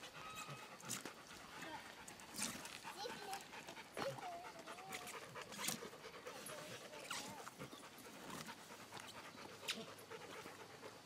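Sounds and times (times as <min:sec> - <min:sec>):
pig breathing: 0:00.0 - 0:11.0.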